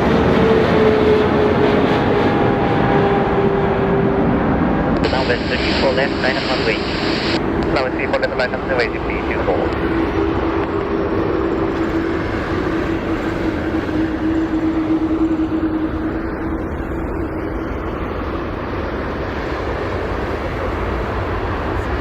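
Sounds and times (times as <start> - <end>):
jet engine humming: 0.0 - 22.0.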